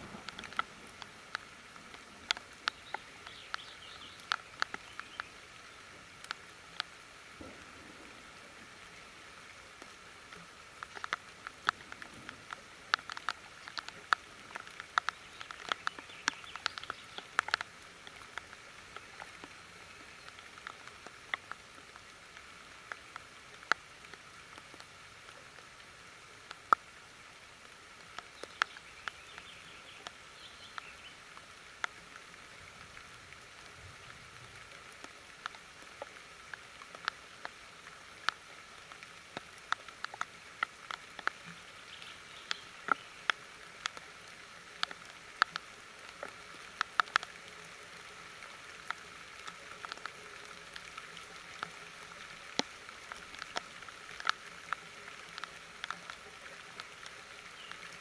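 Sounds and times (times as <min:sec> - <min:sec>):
raindrops tapping: 0:00.0 - 0:58.0
soft rain hiss: 0:00.0 - 0:58.0.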